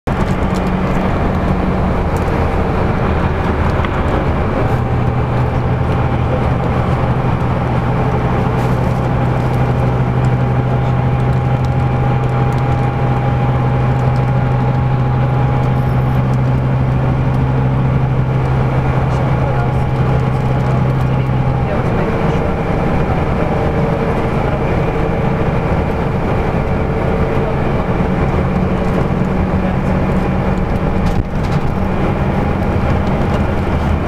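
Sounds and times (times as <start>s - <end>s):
bus engine drone: 0.0s - 34.0s
tyre and road noise: 0.0s - 34.0s.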